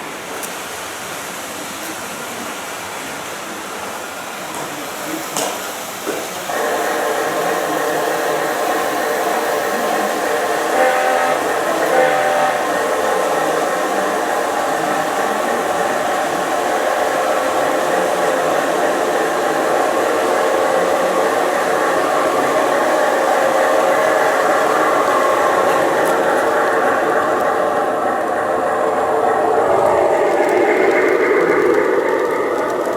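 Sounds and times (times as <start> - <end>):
model train whirring on track: 0.0 - 32.9.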